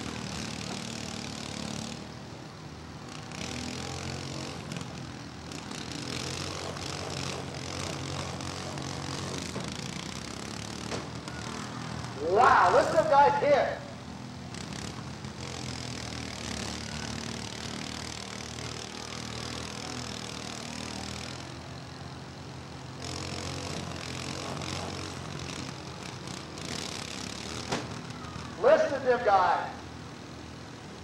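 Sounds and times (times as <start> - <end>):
riding lawn mower engines droning: 0.0 - 31.0.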